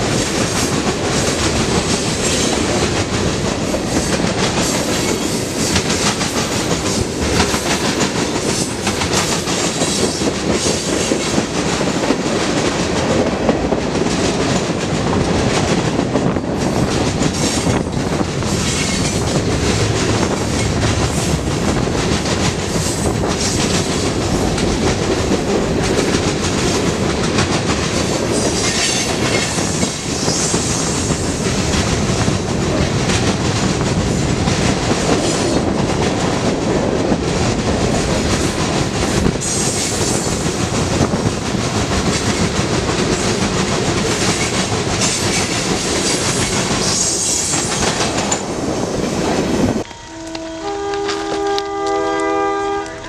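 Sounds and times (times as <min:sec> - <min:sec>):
steel wheels rumbling on rail: 0:00.0 - 0:53.0
wheels clacking over rail joints: 0:00.0 - 0:53.0.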